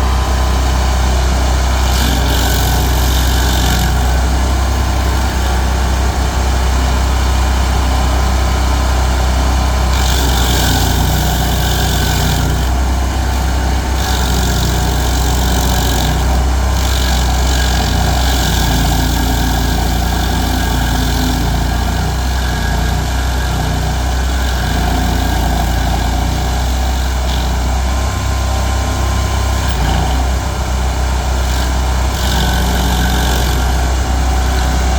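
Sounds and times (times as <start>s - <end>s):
stump grinder engine running: 0.0s - 34.9s.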